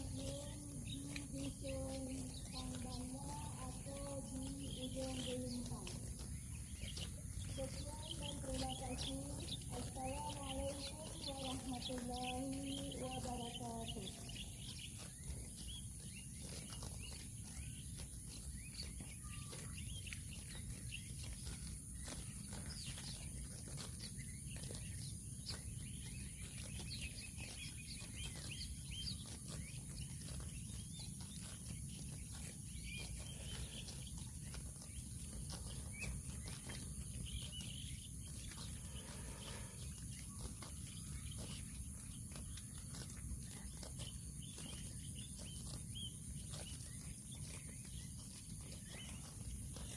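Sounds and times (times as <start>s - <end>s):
cattle crunching grass: 0.0s - 49.9s.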